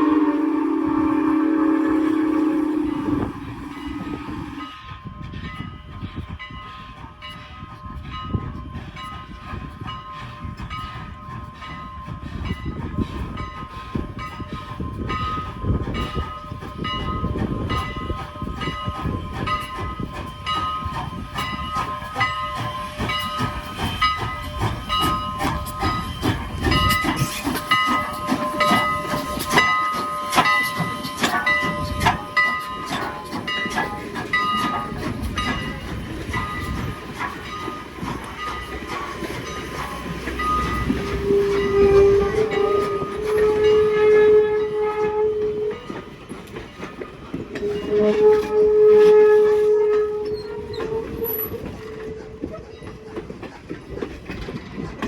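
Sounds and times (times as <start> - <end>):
train wheels clacking over rail joints: 3.0 - 55.0.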